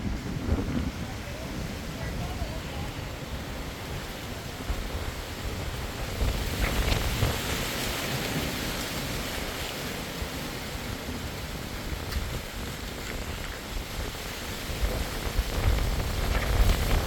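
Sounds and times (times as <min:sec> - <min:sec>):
wind blowing through trees: 0:00.0 - 0:17.0.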